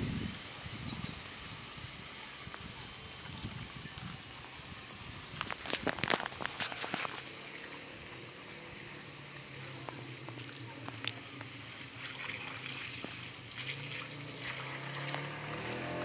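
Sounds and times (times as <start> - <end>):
water running from hose: 0.0 - 16.0.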